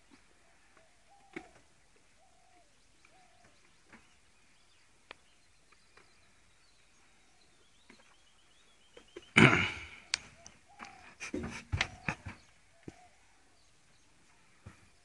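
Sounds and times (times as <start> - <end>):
faint bird calls: 0.0 - 15.0.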